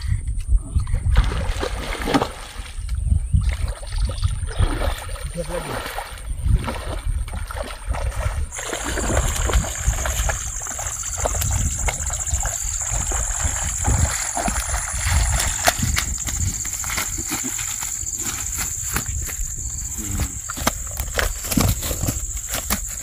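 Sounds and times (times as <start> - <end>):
water splashing and sloshing: 0.9 - 23.0
footfalls in water: 1.1 - 23.0.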